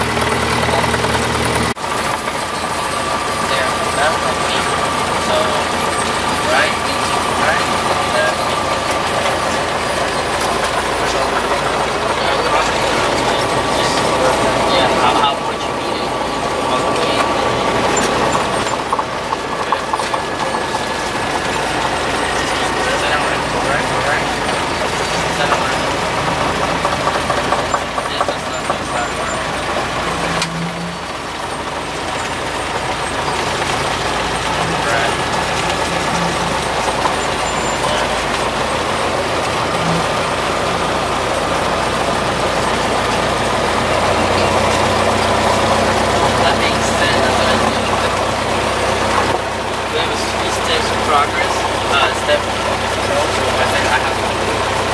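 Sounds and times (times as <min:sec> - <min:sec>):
propeller plane engine running: 0:00.0 - 0:54.9.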